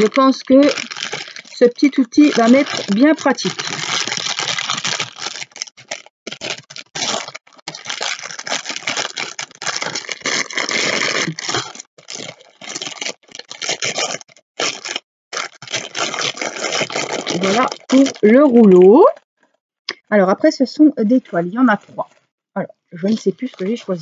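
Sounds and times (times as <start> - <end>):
plastic bag crinkling: 0.0 - 18.9, 23.0 - 24.0.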